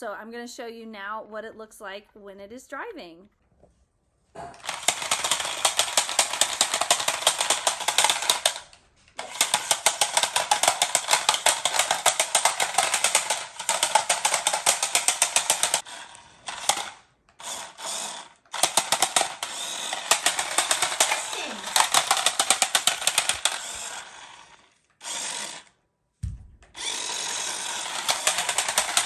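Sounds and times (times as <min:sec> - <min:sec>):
toy car motor rattling: 0:04.5 - 0:25.8, 0:26.7 - 0:29.0.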